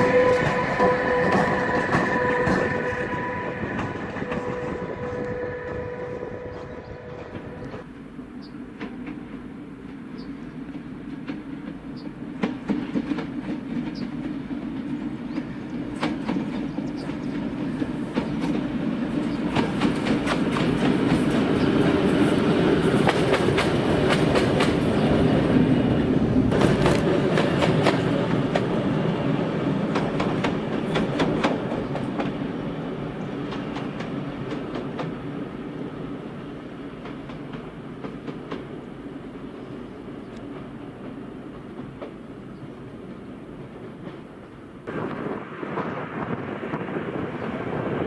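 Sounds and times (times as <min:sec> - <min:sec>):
train wheels clicking over rail joints: 0:00.0 - 0:05.8, 0:07.2 - 0:45.2
train rumble: 0:00.0 - 0:48.0.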